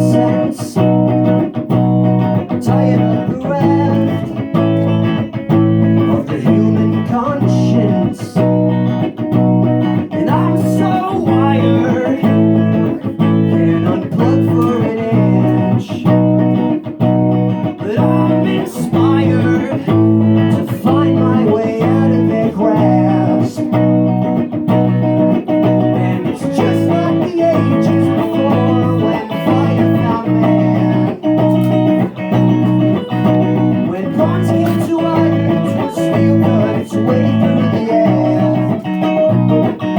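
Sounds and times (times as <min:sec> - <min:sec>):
looped electric guitar: 0:00.0 - 0:39.9.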